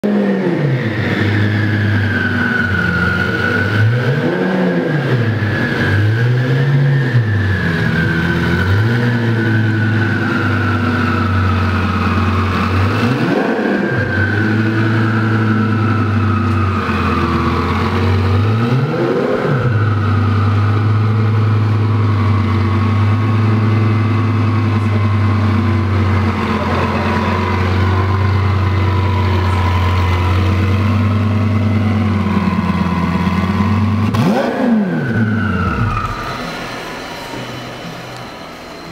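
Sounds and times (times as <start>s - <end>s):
sports car engine idling and revving: 0.0s - 38.9s.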